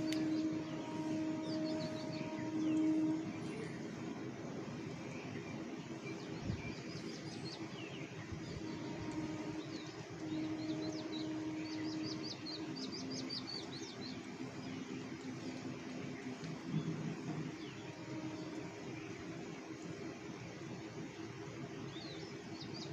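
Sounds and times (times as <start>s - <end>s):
small birds chirping: 0.0s - 22.9s
steady low hum: 0.0s - 22.9s.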